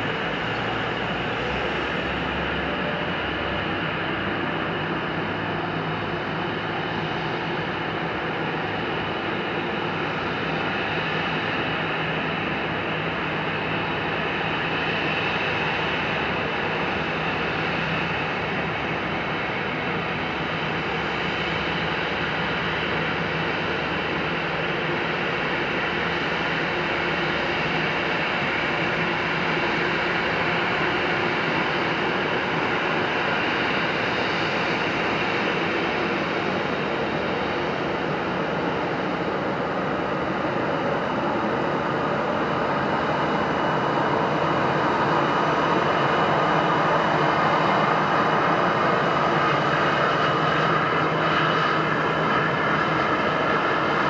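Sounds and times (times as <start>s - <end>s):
jet engines at taxi power: 0.0s - 54.0s.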